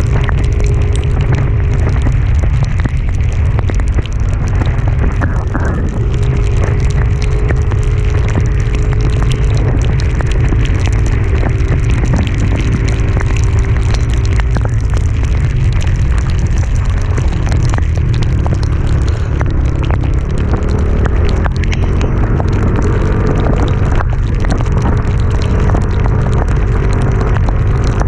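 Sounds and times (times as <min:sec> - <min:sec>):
raindrops ticking on microphone: 0:00.0 - 0:28.0
wind buffeting microphone: 0:00.0 - 0:28.0.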